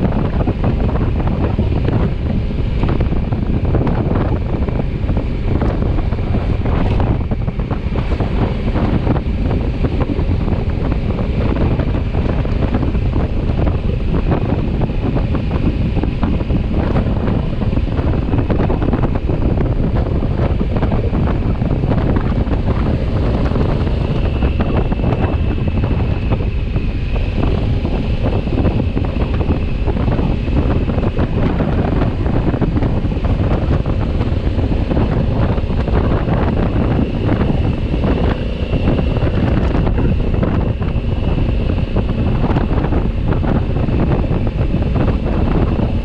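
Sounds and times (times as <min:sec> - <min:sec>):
motorcycle rumble: 0:00.0 - 0:46.0
wind buffeting microphone: 0:00.0 - 0:46.0.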